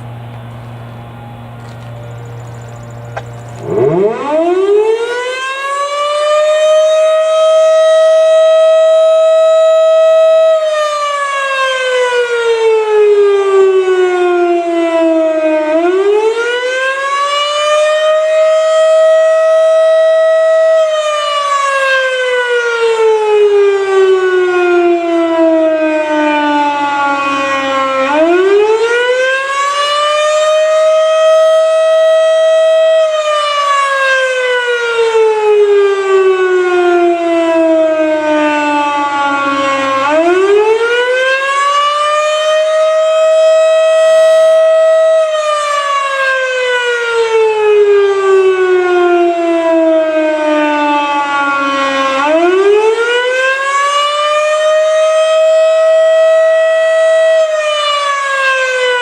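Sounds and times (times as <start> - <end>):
fire siren wailing: 0.0 - 59.0.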